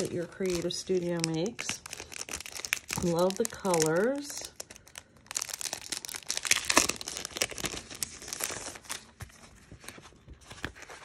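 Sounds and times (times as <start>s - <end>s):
cellophane crinkling: 0.0s - 11.0s.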